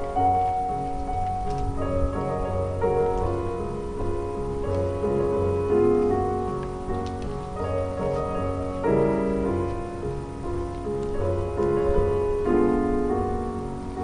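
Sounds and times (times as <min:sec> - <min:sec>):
solo piano chords: 0:00.0 - 0:14.0.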